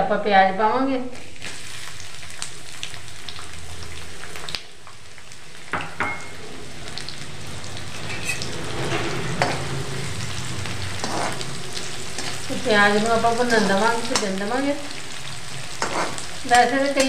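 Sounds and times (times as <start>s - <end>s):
onions sizzling in hot oil: 1.1s - 17.0s.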